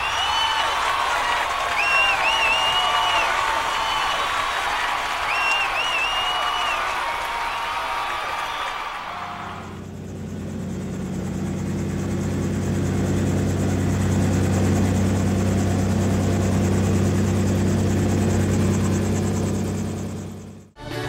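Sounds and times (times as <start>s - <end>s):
helicopter rotor drone overhead: 0.0s - 21.0s.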